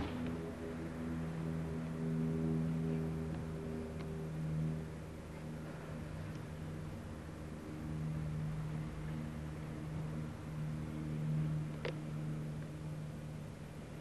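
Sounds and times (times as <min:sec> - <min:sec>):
electric railcar humming: 0:00.0 - 0:14.0.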